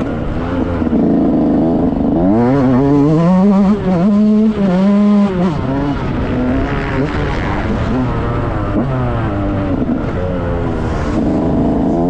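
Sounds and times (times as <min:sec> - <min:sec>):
two-stroke motorbike engine revving: 0:00.0 - 0:12.0.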